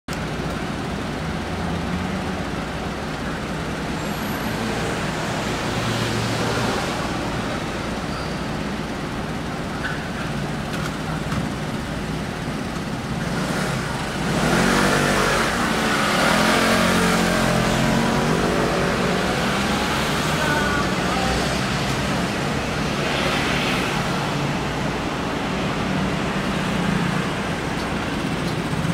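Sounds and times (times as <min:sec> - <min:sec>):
city street traffic: 0:00.1 - 0:28.9.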